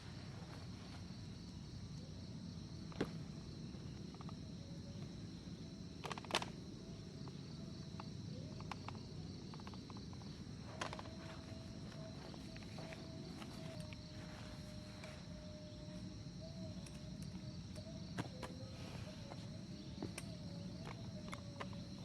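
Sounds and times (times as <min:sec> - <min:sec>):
forest insects chirring: 0:00.0 - 0:22.0.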